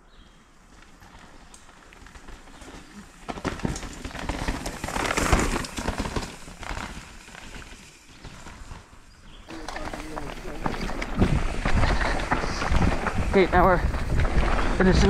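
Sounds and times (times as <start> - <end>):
bike tyres crunching over stones: 0.2 - 15.0.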